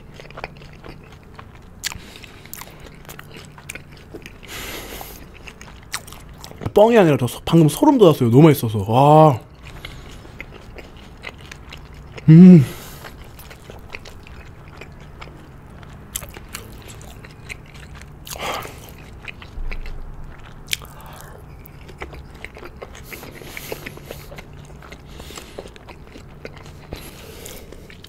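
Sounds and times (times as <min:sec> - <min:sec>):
close chewing mouth sounds: 0:00.0 - 0:08.4, 0:09.3 - 0:28.0.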